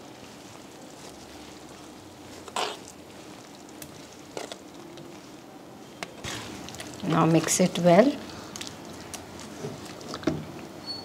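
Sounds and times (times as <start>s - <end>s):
gravy sizzling: 0.0s - 10.3s.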